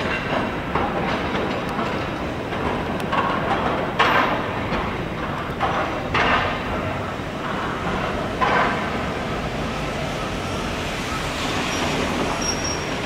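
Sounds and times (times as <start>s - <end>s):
tram rumbling on street track: 0.0s - 13.0s.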